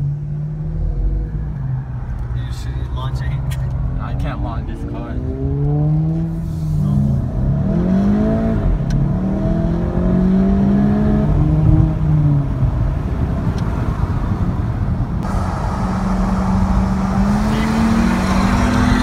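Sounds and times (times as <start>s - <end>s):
car engine accelerating: 0.0s - 19.0s
road rumble: 0.0s - 19.0s.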